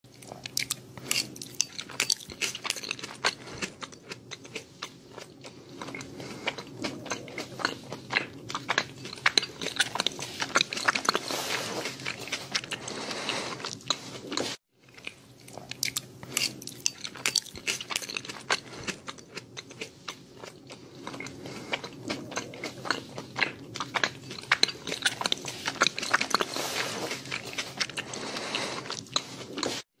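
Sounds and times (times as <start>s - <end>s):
close-up chewing: 0.1s - 29.9s.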